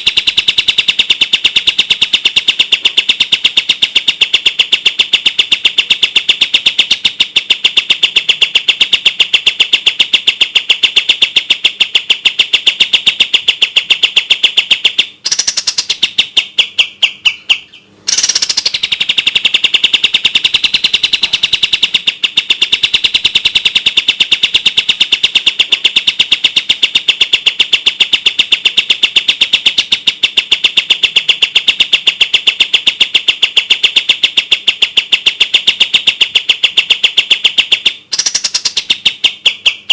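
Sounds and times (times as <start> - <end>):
bulbul singing rapid high notes: 0.0 - 39.9.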